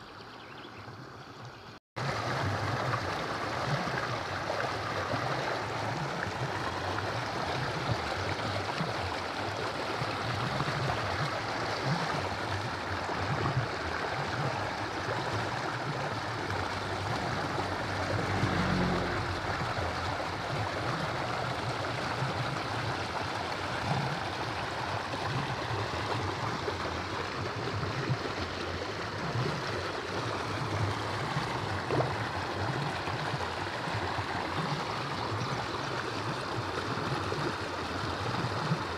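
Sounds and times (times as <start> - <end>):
stream water rushing: 2.0 - 38.9.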